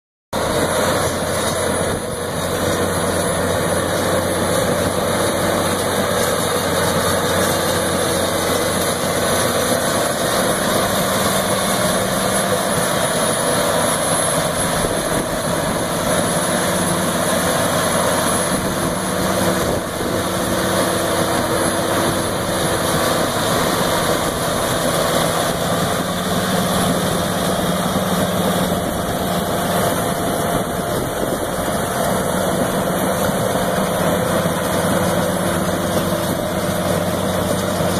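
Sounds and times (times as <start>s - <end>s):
diesel engine running: 0.4s - 37.9s.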